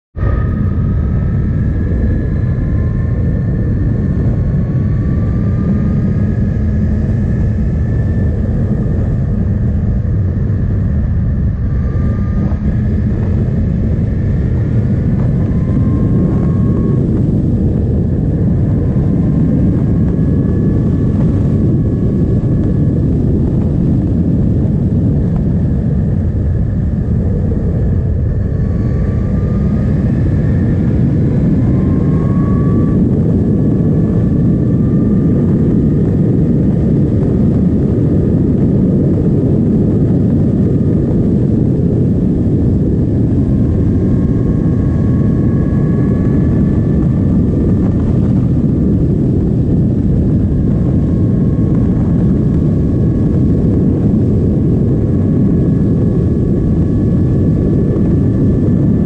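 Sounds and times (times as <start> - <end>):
wind noise on microphone: 0.1 - 59.0.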